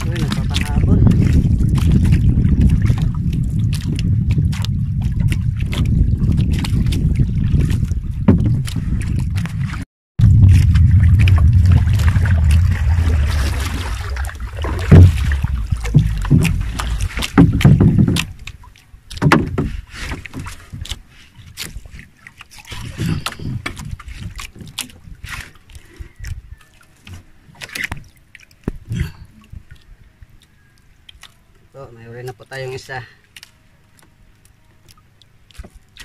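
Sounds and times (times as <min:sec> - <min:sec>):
wind rumbling on microphone: 0:00.0 - 0:26.6, 0:27.9 - 0:30.7
paddle strokes splashing water: 0:00.0 - 0:36.0.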